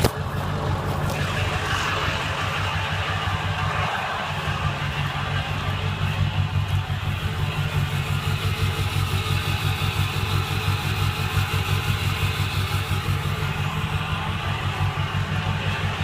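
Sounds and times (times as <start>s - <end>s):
pickup engine idling: 0.0s - 16.0s.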